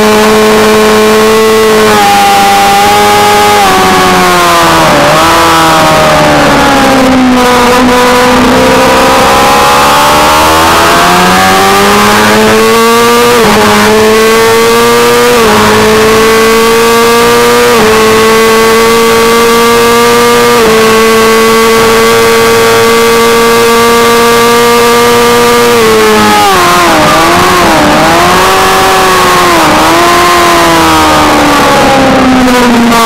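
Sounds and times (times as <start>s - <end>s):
motorcycle engine at full throttle: 0.0s - 33.0s.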